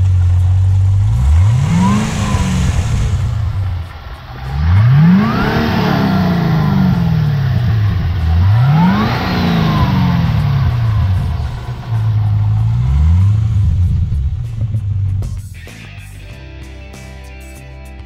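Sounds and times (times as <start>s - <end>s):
car engine revving: 0.0s - 16.7s
supercharger whine: 0.0s - 17.2s.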